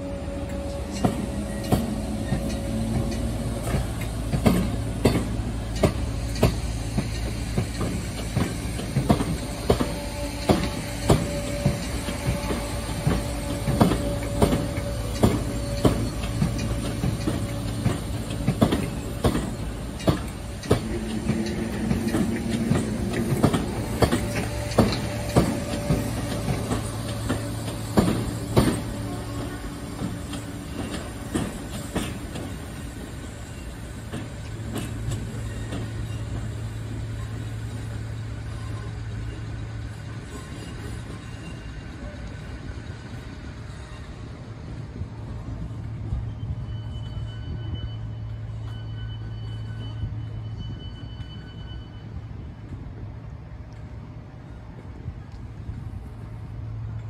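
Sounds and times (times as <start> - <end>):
train low rumble: 0.0 - 57.0
train wheels clicking over rail joints: 0.3 - 51.7.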